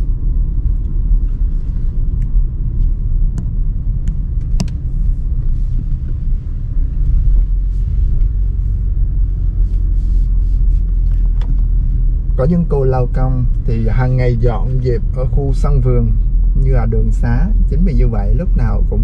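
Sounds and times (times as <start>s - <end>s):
car driving slowly from inside: 0.0s - 19.0s.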